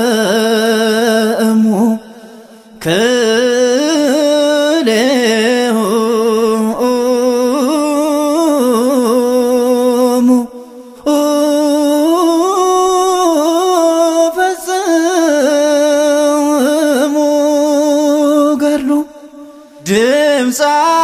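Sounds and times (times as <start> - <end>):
solo voice singing hymn: 0.0 - 2.1, 2.8 - 21.0.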